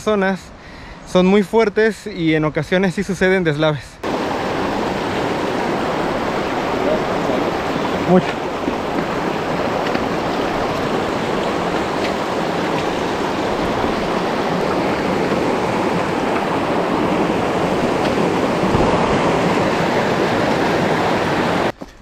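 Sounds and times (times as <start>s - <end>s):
rushing water: 4.0s - 21.8s.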